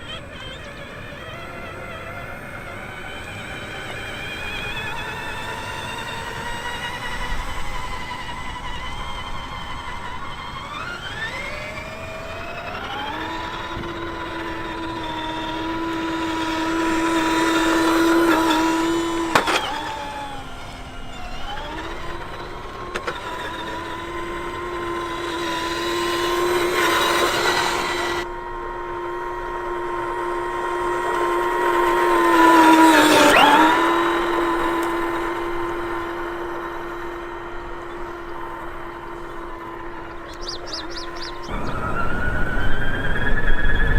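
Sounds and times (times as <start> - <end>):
toy truck motor whining: 0.0 - 43.9.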